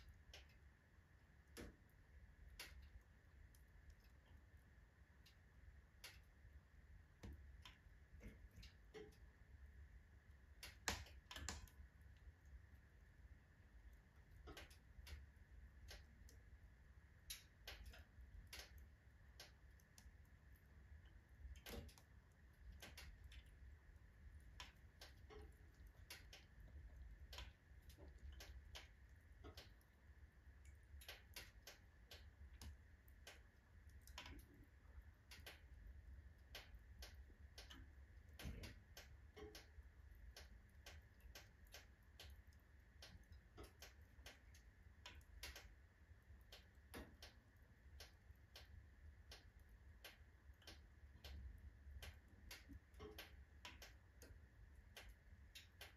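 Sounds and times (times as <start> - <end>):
low steady fire rumble: 0.0 - 55.9
wood fire crackling and popping: 0.0 - 55.9.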